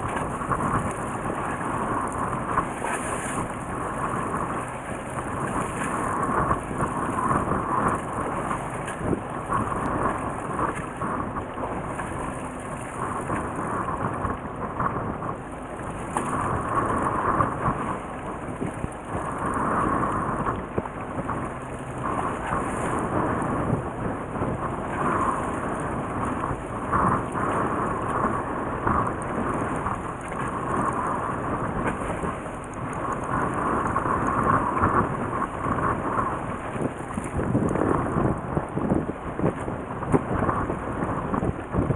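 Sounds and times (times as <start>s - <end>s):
water rushing: 0.0s - 41.9s
wind on microphone: 0.0s - 41.9s.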